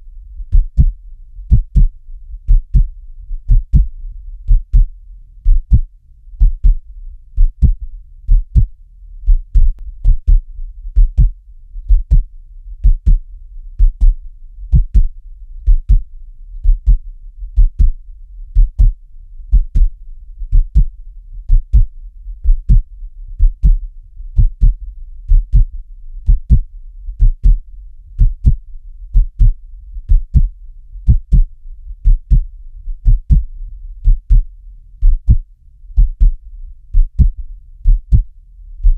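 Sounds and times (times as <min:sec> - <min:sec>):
faint low rumble: 0:00.0 - 0:38.9
heartbeat thumps: 0:00.0 - 0:38.9.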